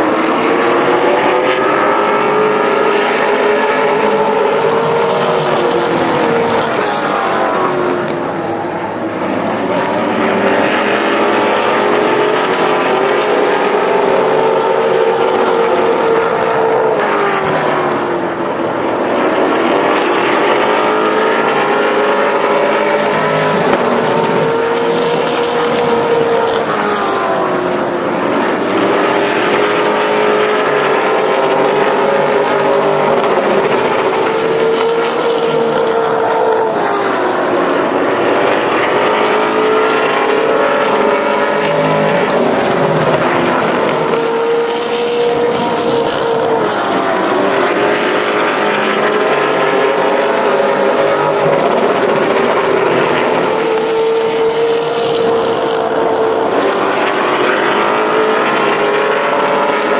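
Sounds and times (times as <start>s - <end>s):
race car engines droning: 0.0s - 59.9s.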